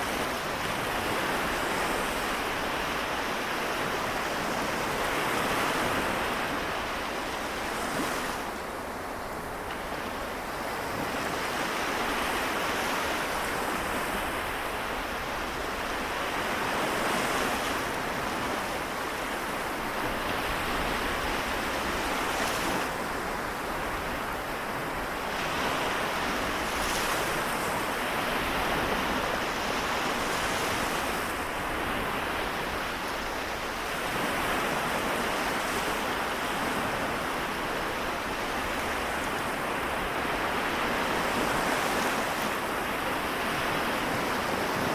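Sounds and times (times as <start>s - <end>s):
small waves washing onto shore: 0.0s - 44.9s.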